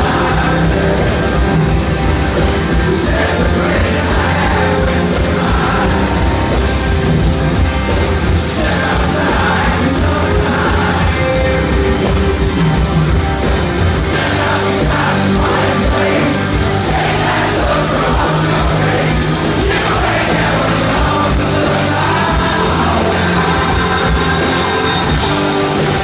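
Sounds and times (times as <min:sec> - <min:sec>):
male lead vocal: 0:00.0 - 0:01.8, 0:02.7 - 0:06.6, 0:08.2 - 0:12.5, 0:14.0 - 0:26.0
live rock band: 0:00.0 - 0:26.0.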